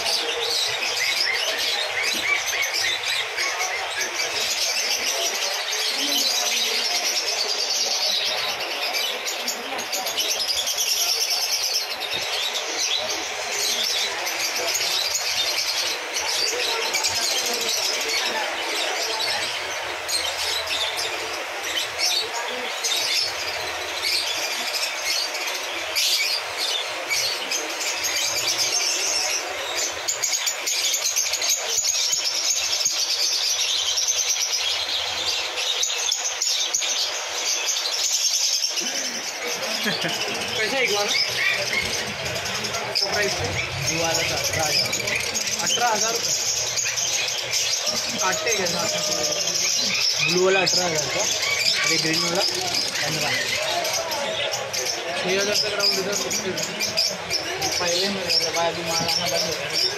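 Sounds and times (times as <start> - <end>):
caged birds chirping: 0.0 - 59.9.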